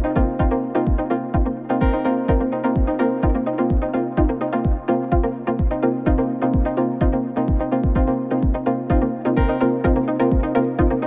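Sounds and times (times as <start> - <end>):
deep kick drum beat: 0.0 - 11.0
held synth chords: 0.0 - 11.0.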